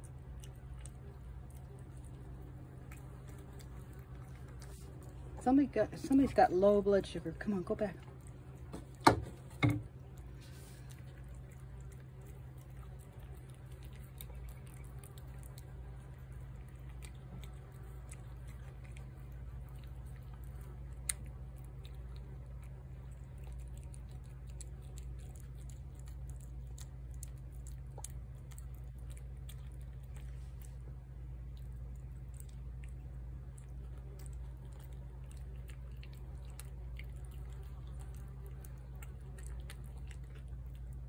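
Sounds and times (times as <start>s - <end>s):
cat chewing wet food: 0.0s - 41.0s
steady low hum: 0.0s - 41.0s.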